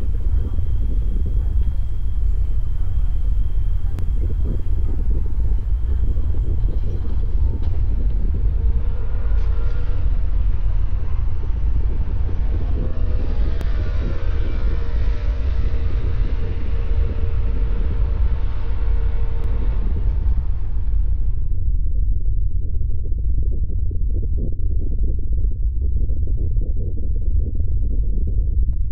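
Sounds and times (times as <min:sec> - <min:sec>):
low rumble of large fire: 0:00.0 - 0:28.9.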